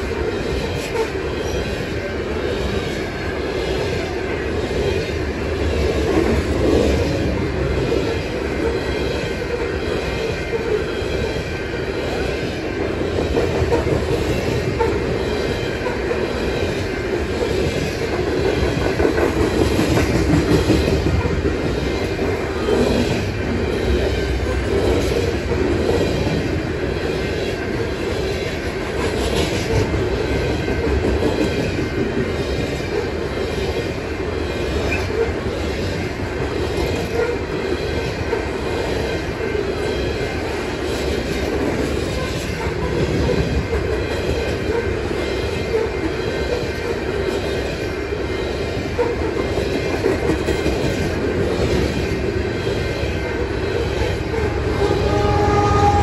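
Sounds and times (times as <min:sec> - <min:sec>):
freight train wheels rumbling: 0:00.0 - 0:56.0
rail wheel clicking: 0:00.0 - 0:56.0.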